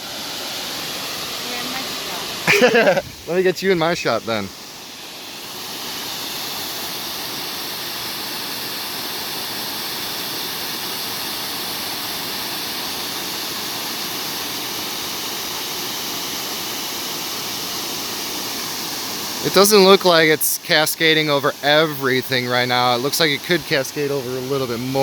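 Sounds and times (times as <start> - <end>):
small waterfall rushing: 0.0 - 25.0.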